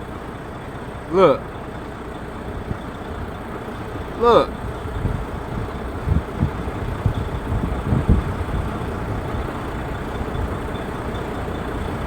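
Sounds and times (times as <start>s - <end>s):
distant city traffic: 0.0s - 12.0s.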